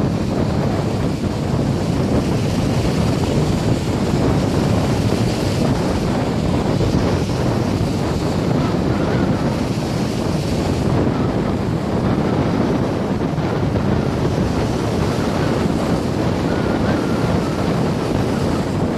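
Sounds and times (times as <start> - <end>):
waves breaking on shore: 0.0 - 18.9
wind on microphone: 0.0 - 18.9.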